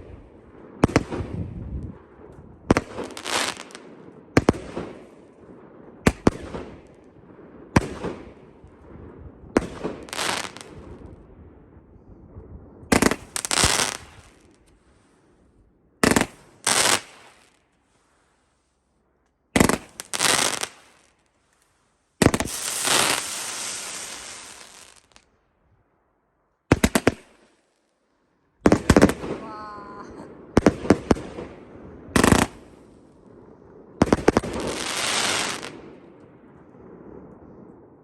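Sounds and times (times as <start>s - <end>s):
fireworks bangs: 0.0s - 14.8s, 16.0s - 17.6s, 19.6s - 21.3s, 22.2s - 25.3s, 26.7s - 27.5s, 28.6s - 38.0s
fireworks crackle: 0.0s - 25.4s, 28.6s - 38.0s.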